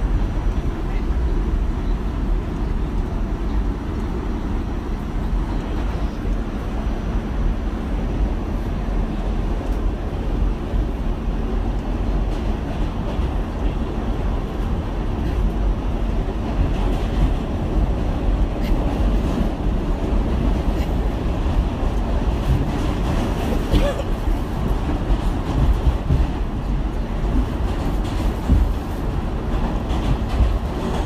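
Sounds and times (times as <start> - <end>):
subway train rumbling on track: 0.0 - 31.0.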